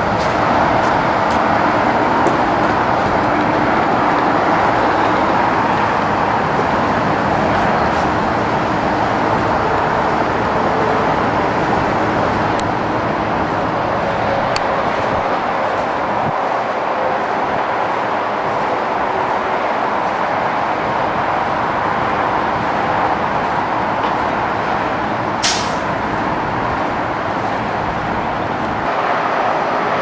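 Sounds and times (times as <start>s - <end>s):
steady rushing noise: 0.0s - 30.0s.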